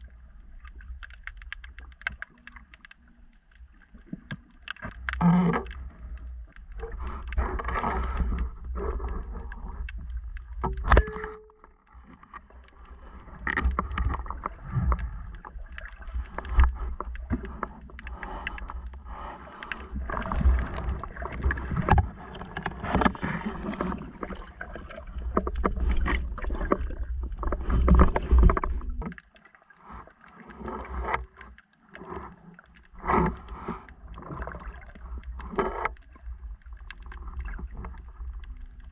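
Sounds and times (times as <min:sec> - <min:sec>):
underwater gurgling: 0:00.0 - 0:38.9.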